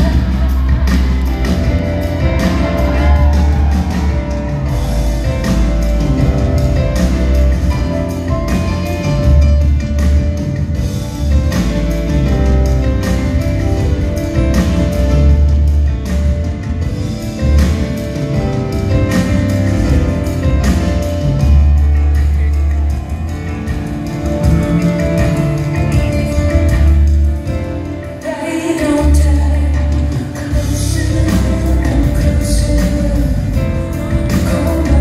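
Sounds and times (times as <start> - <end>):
drums: 0.0 - 35.0
grand piano: 0.0 - 35.0.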